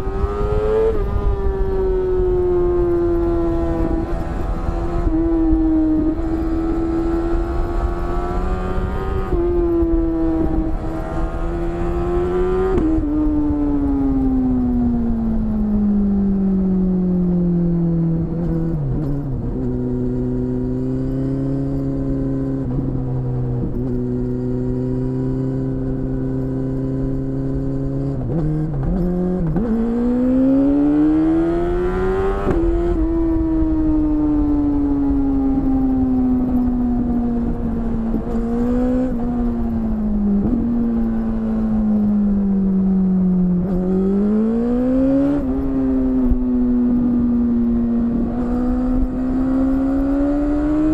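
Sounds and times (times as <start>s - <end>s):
low wind rumble: 0.0s - 50.9s
motorcycle engine revving: 0.0s - 50.9s.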